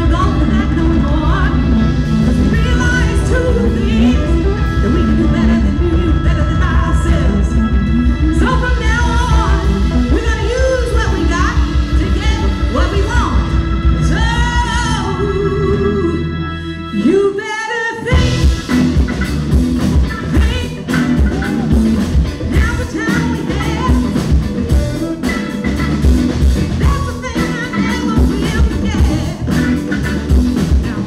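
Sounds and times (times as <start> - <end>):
woman singing: 0.0 - 18.6, 20.1 - 25.4, 26.7 - 29.8
live band playing: 0.0 - 31.0.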